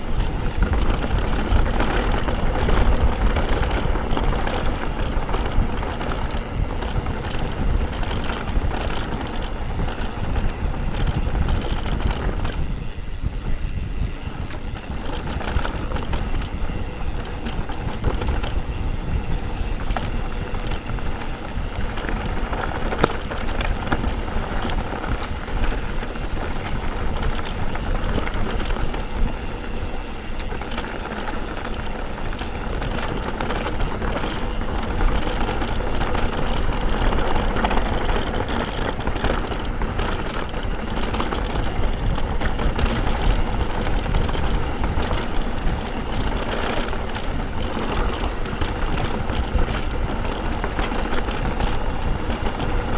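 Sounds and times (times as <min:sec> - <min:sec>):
bike rattling over trail: 0:00.0 - 0:52.9
wind on microphone: 0:00.0 - 0:52.9.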